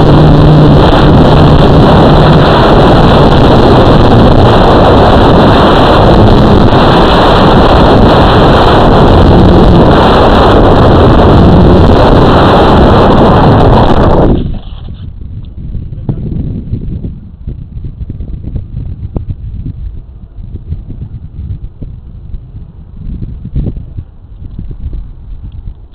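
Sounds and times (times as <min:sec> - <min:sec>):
distorted wind noise: 0:00.0 - 0:25.9.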